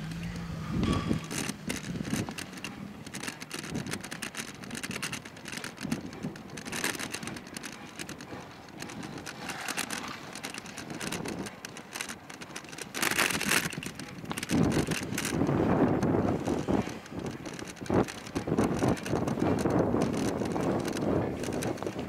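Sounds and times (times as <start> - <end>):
irregular clicks and rattles: 0.0 - 22.0
scooter rolling on pavement: 0.0 - 22.0.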